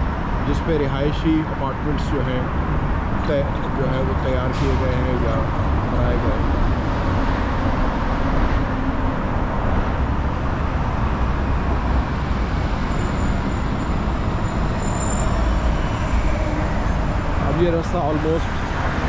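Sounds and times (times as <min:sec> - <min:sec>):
road traffic roar: 0:00.0 - 0:19.0.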